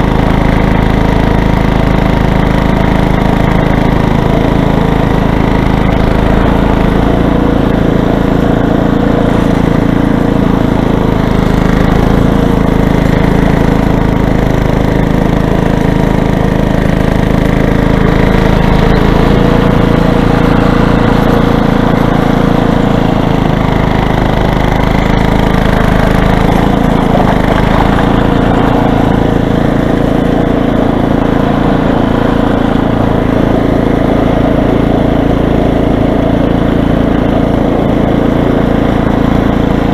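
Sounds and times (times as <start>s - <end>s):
electric snowblower running: 0.0s - 39.9s.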